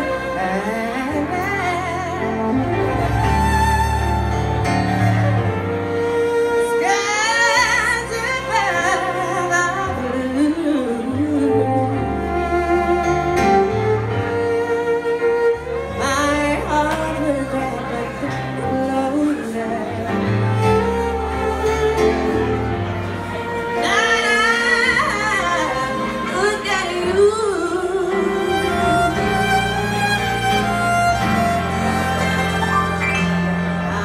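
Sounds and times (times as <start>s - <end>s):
violin melody with vibrato: 0.0s - 34.0s.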